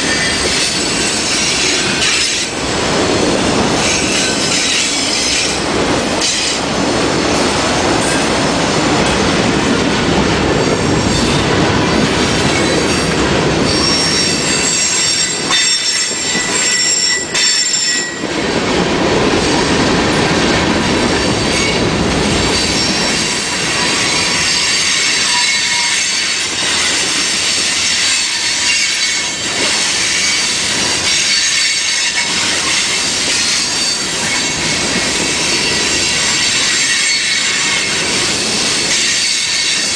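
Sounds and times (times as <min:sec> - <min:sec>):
train wheels squealing on rails: 0:00.0 - 0:08.3, 0:10.6 - 0:18.6, 0:21.0 - 0:39.9
train rolling past: 0:00.0 - 0:39.9.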